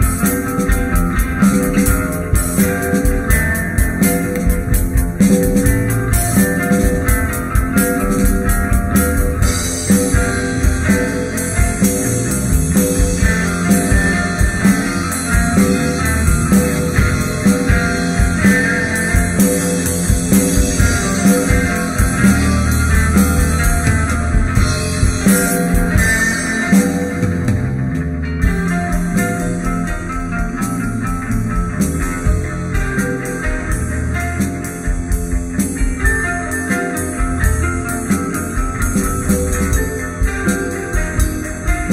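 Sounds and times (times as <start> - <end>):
bass guitar: 0.0 - 41.9
drum kit: 0.0 - 41.9
guitar: 0.0 - 41.9.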